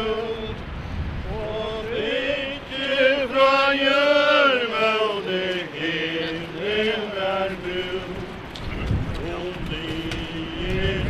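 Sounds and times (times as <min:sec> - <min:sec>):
people singing a slow hymn: 0:00.0 - 0:11.0.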